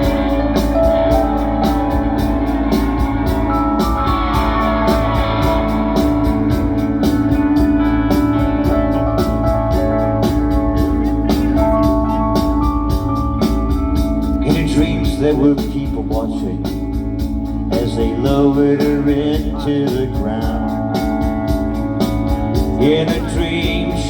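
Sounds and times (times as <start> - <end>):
rock band held chords: 0.0 - 24.0
steady drum beat: 0.0 - 24.0.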